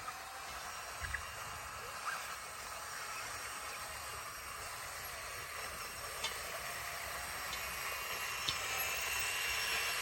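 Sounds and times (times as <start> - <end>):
steady outdoor hiss: 0.0 - 10.0.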